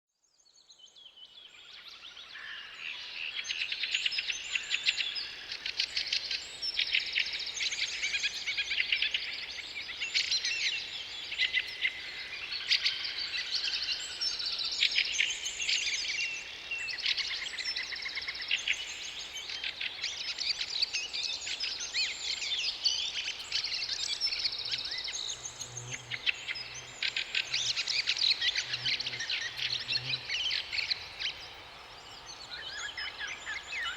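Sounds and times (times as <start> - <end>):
songbirds chirping and trilling: 1.1 - 33.9.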